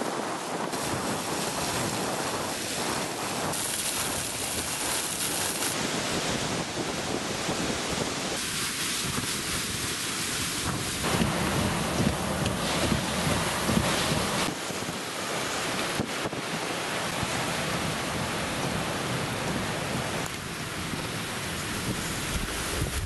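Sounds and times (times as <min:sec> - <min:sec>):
driving rain: 0:00.0 - 0:23.0
hurricane wind: 0:00.0 - 0:23.0
wind buffeting microphone: 0:00.0 - 0:23.0.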